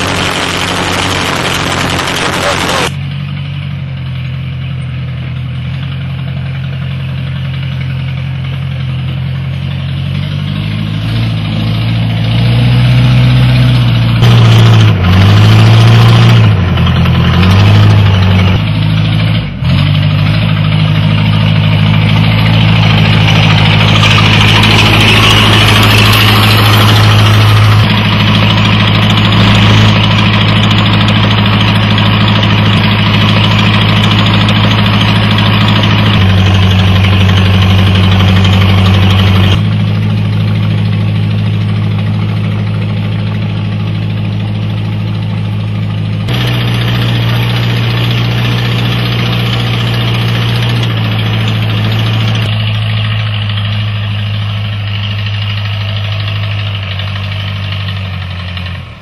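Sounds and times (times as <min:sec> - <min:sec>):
bulldozer diesel engine revving: 0:00.0 - 0:59.0.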